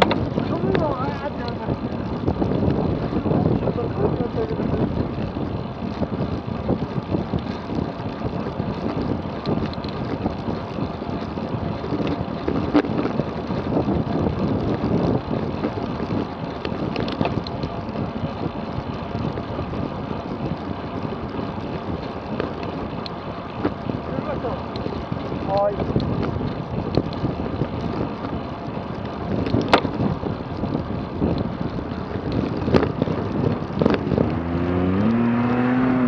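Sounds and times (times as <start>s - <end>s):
bike road noise: 0.0s - 36.0s
wind rushing over microphone: 0.0s - 36.0s.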